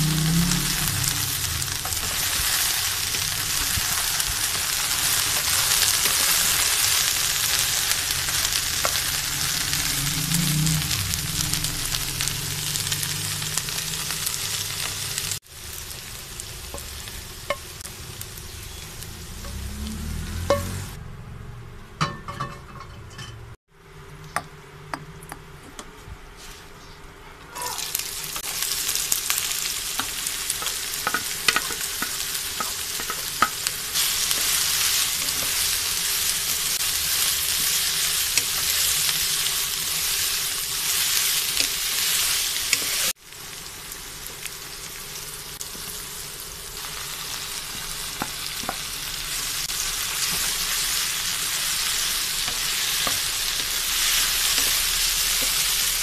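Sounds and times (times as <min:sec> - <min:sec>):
onions sizzling in oil: 0:00.0 - 0:21.0, 0:27.5 - 0:56.0.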